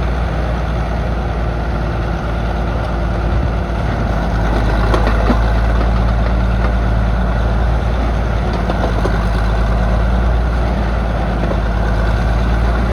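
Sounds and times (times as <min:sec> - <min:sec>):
excavator engine running: 0:00.0 - 0:12.9.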